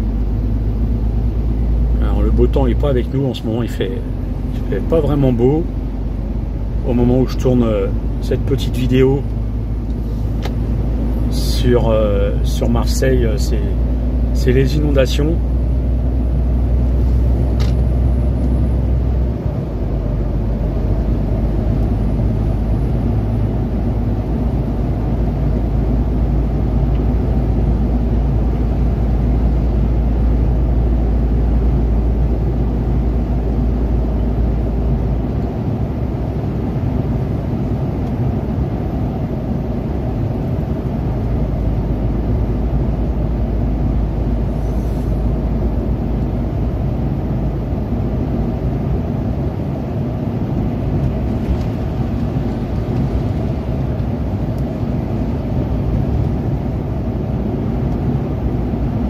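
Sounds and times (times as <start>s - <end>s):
lorry engine and tyre rumble: 0.0s - 59.0s.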